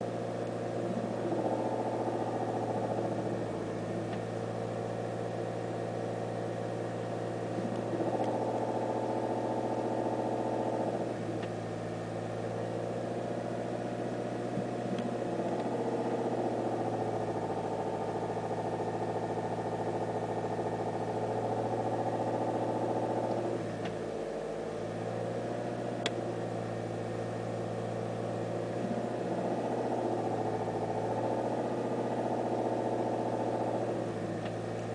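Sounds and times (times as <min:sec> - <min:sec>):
van engine idling: 0:00.0 - 0:34.9.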